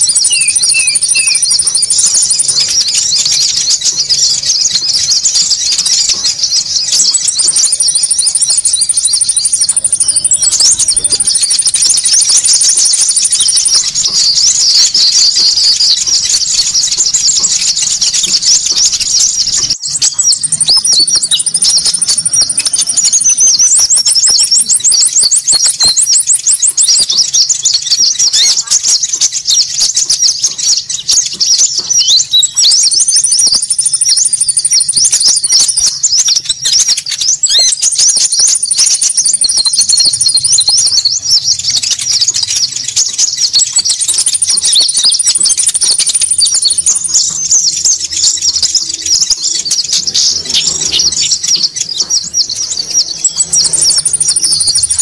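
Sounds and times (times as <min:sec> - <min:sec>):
small birds chattering: 0:00.0 - 0:55.0
thin bird trill: 0:00.0 - 0:55.0.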